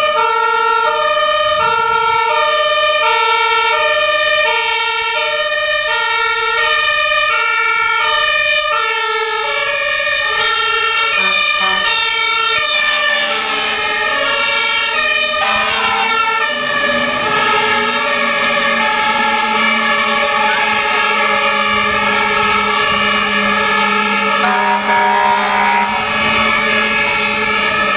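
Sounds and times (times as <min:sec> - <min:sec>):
steady held siren tone: 0:00.0 - 0:26.2
two-tone sirens: 0:00.0 - 0:27.9.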